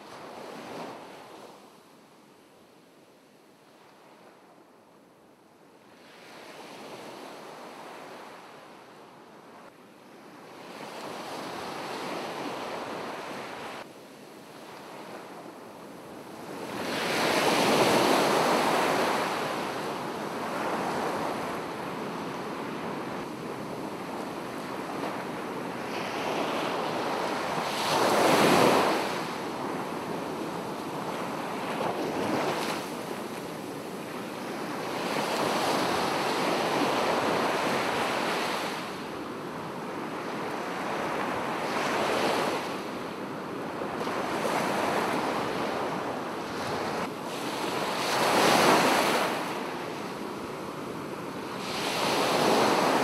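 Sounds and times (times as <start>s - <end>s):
waves breaking and washing in: 5.8s - 53.0s.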